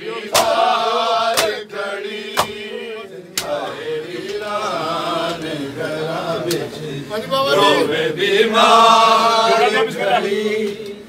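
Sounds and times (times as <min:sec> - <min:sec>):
men chanting a lament: 0:00.0 - 0:11.0.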